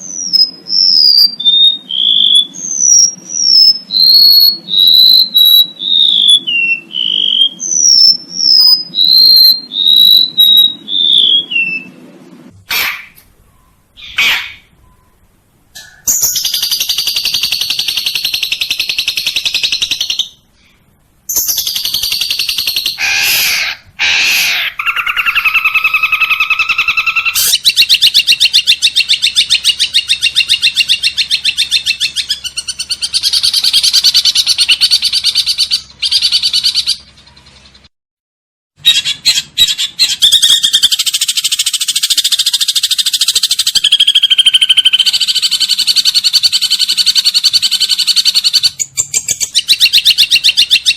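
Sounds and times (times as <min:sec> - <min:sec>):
songbird trilling: 0:00.0 - 0:11.9, 0:12.7 - 0:15.2, 0:15.8 - 0:37.1, 0:38.8 - 0:50.9.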